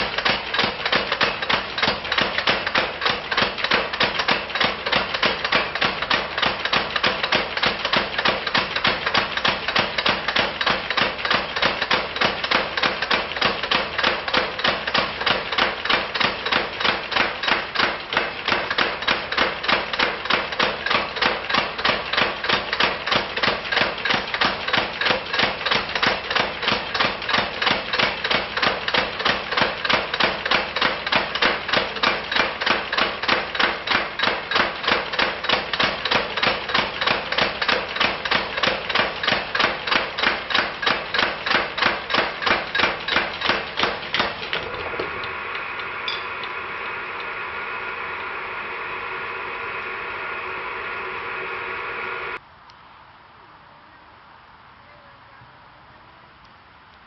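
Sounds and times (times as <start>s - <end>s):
power hammer pounding metal: 0.0s - 50.6s.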